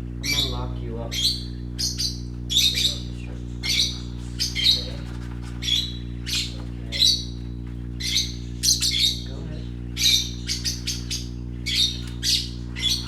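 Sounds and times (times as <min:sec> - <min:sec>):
steady low hum: 0:00.0 - 0:13.0
parrots chirping: 0:00.2 - 0:13.0.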